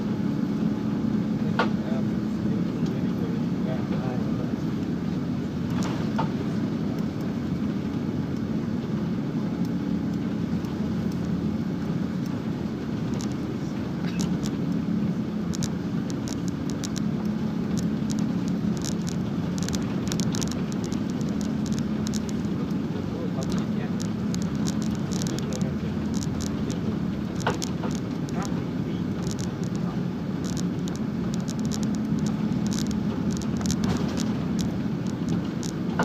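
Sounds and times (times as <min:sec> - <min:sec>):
airplane cabin engine noise: 0:00.0 - 0:36.0.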